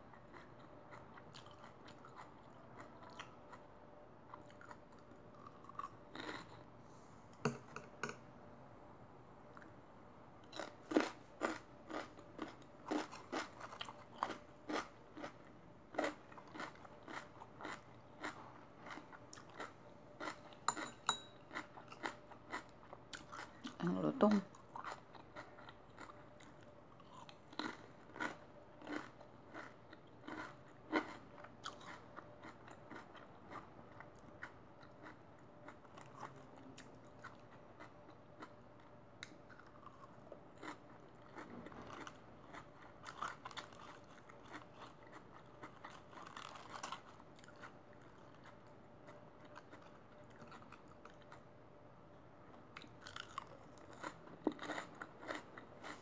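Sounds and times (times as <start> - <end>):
person chewing crunchy food: 0.1 - 3.7, 4.3 - 6.7, 10.4 - 23.8, 24.5 - 51.4, 52.7 - 56.0.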